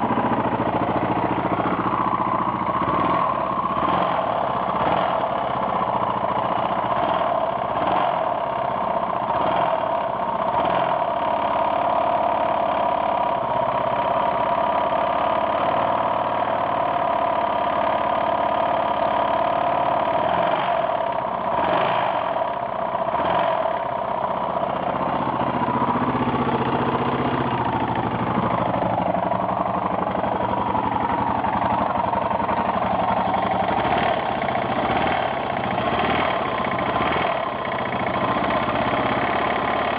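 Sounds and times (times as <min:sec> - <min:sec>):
motorcycle engine idling with knocking: 0:00.0 - 0:39.9.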